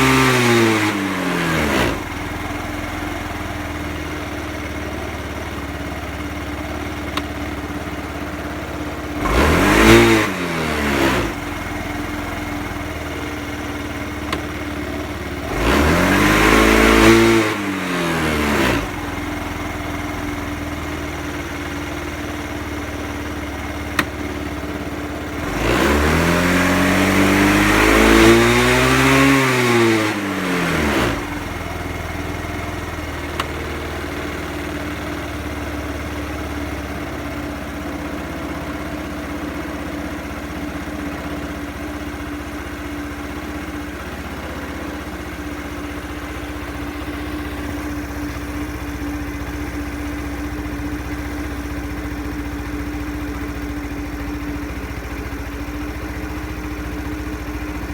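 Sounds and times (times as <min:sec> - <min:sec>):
scooter engine revving and idling: 0:00.0 - 0:57.9.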